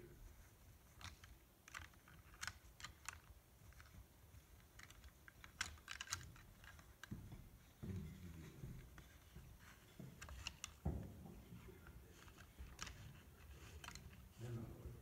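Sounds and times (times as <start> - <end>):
antlers clacking: 0.8 - 14.8.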